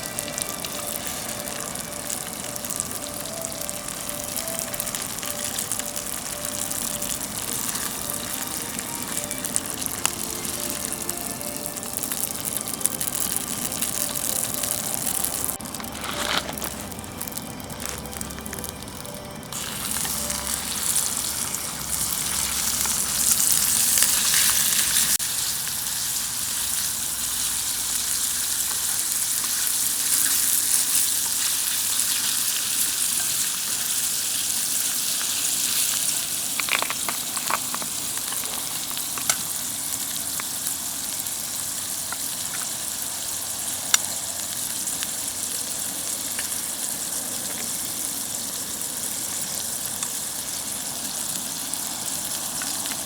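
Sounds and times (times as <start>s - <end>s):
oil sizzling in a skillet: 0.0s - 53.0s.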